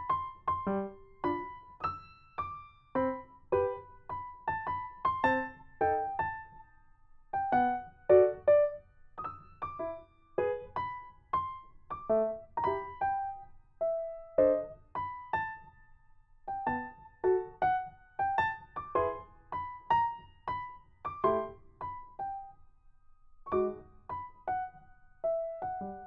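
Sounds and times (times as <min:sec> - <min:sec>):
slow gentle piano tune: 0:00.0 - 0:26.0.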